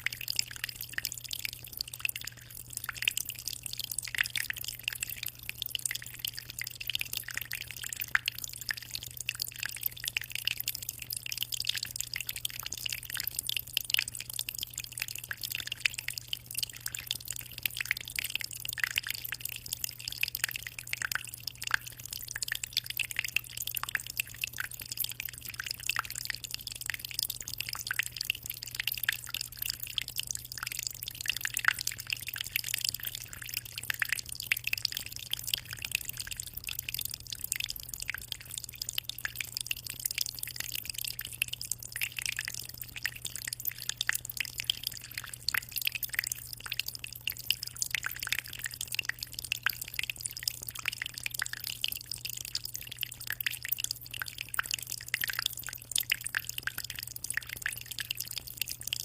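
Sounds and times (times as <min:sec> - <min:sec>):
aquarium water trickling: 0:00.0 - 0:59.0
small drips and splashes: 0:00.0 - 0:59.0.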